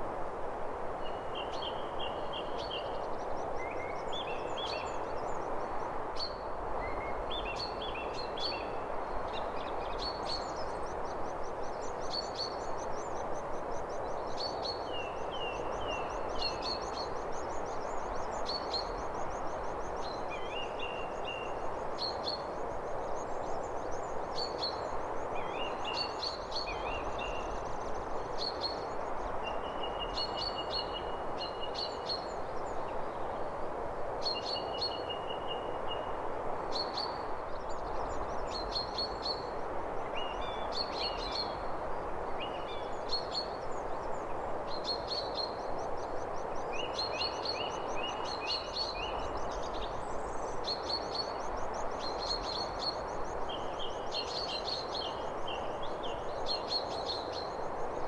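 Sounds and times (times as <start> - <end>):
steady hiss: 0.0 - 58.0
small birds chirping and trilling: 1.0 - 58.0.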